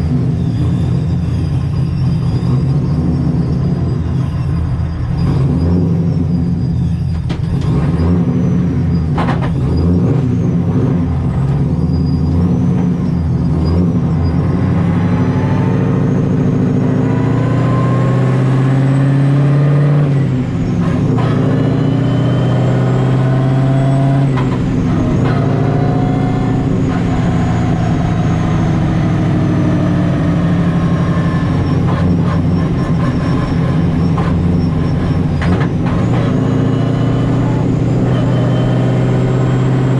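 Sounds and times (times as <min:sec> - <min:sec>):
car engine accelerating: 0:00.0 - 0:39.9
supercharger whine: 0:00.0 - 0:39.9.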